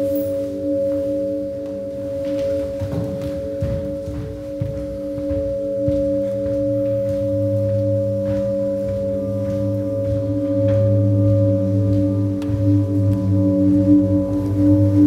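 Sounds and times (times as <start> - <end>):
ambient drone music: 0.0 - 15.0.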